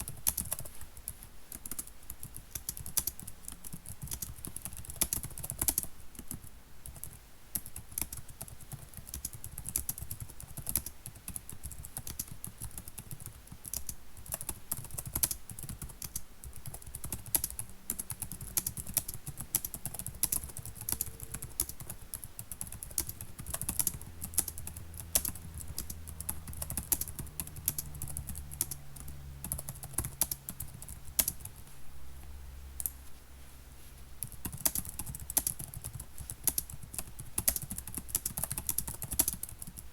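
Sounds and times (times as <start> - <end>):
keyboard typing clicks: 0.0 - 31.6, 34.2 - 39.8
faint low hum: 0.0 - 39.9.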